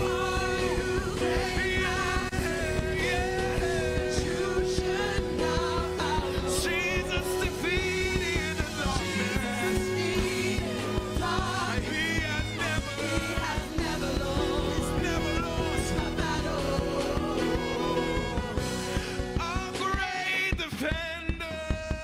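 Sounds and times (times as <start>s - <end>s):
voices singing together: 0.0s - 20.4s
bass: 0.0s - 22.0s
drums: 0.0s - 22.0s
guitar: 0.0s - 22.0s.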